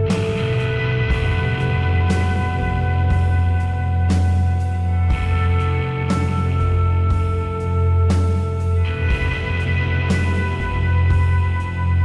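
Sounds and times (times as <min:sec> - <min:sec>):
deep bass drone: 0:00.0 - 0:12.0
held chords: 0:00.0 - 0:12.0.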